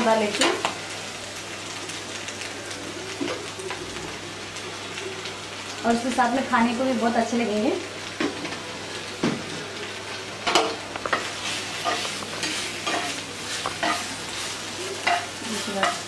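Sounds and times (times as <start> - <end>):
spinach sizzling in oil: 0.0 - 16.0.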